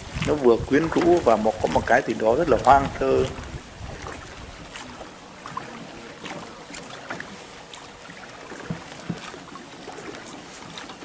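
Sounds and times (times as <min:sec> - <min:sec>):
oars knocking: 0:00.0 - 0:11.0
water lapping around boat: 0:00.0 - 0:11.0.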